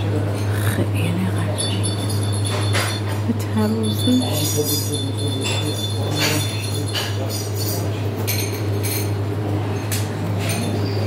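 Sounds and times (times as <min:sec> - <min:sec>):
glasses and crockery clinking: 0:00.0 - 0:11.0
steady low hum: 0:00.0 - 0:11.0.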